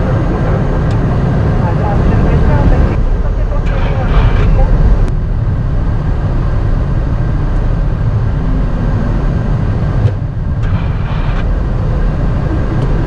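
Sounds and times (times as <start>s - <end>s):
cockpit low rumble: 0.0s - 13.0s.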